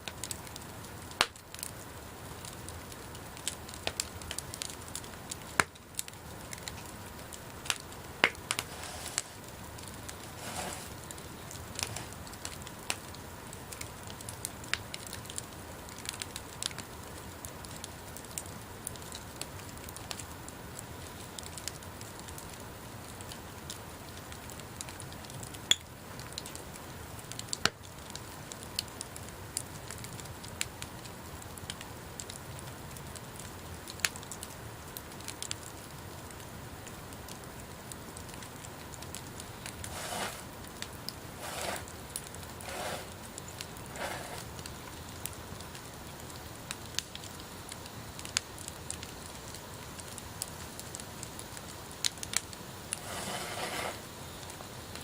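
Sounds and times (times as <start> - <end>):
bonfire crackling: 0.0 - 55.0.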